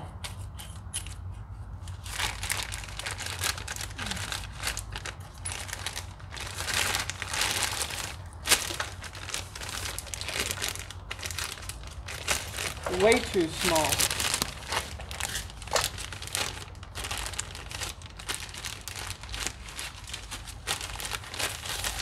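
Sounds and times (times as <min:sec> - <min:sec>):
plastic bag crinkling: 0:02.0 - 0:22.0.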